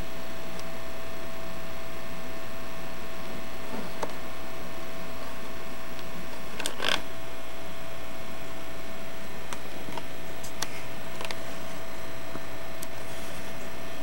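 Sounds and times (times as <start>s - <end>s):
camcorder hum and hiss: 0.0s - 14.0s.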